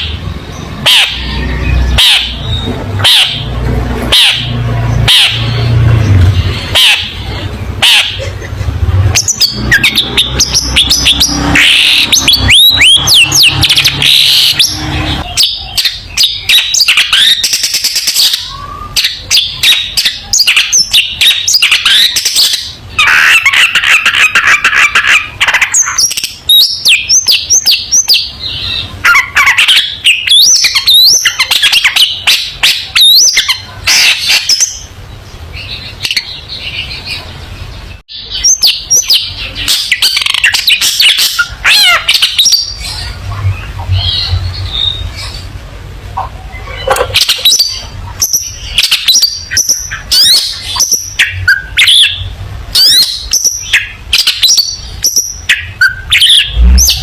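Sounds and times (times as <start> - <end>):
shrike singing: 0.0 - 57.0.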